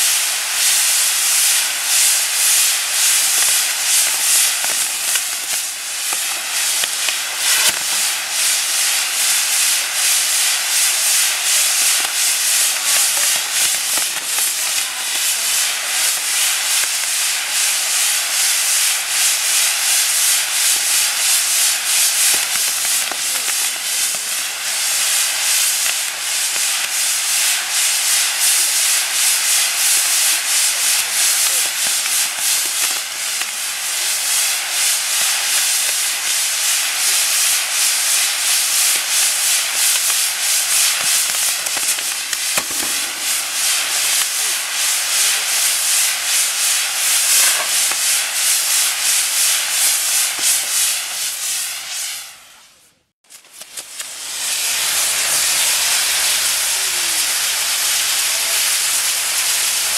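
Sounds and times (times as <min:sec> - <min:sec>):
firework wheel hissing: 0:00.0 - 0:59.9.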